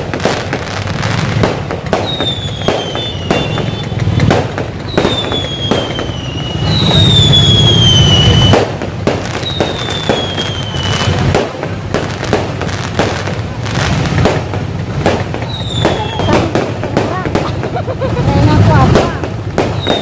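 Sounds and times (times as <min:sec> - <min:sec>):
fireworks popping and banging: 0:00.0 - 0:20.0
whistling rockets: 0:00.0 - 0:20.0.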